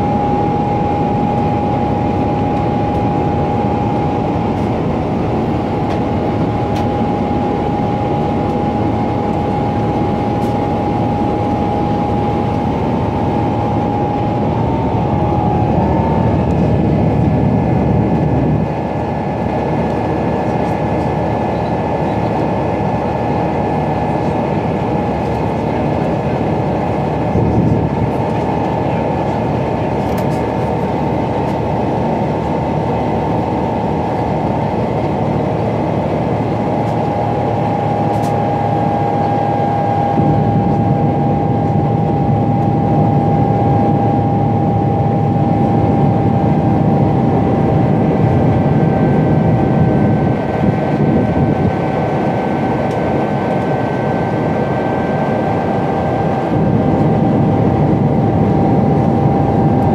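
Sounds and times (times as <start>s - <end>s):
high whine: 0.0s - 59.9s
jet engine roar and airflow: 0.0s - 59.9s.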